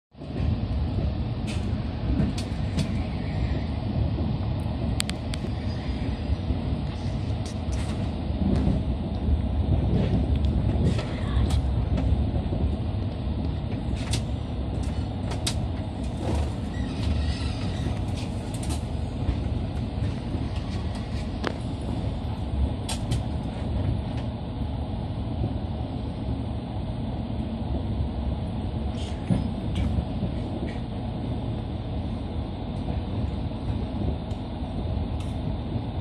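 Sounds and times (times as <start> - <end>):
train wheels rumbling on rails: 0.1 - 36.0.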